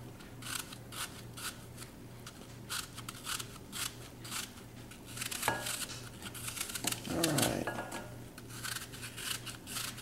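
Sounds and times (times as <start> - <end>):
knife cutting crisp apple: 0.4 - 10.0.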